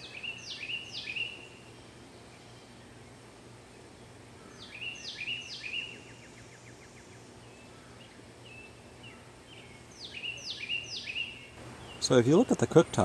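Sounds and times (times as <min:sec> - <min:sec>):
songbird calling: 0:00.0 - 0:13.0.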